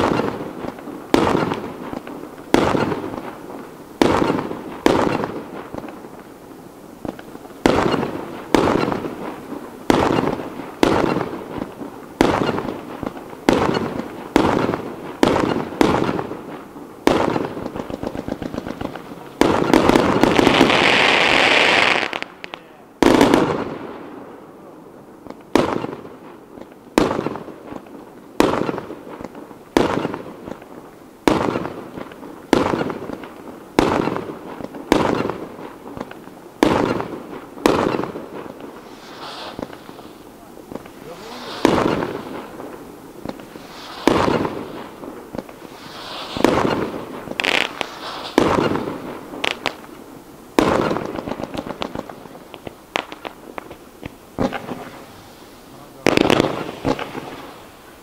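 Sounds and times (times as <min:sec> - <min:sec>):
loud firework hiss: 0:00.0 - 0:24.4, 0:26.9 - 0:58.0
firework crackling: 0:00.0 - 0:58.0
fireworks bursting with bangs: 0:00.0 - 0:58.0.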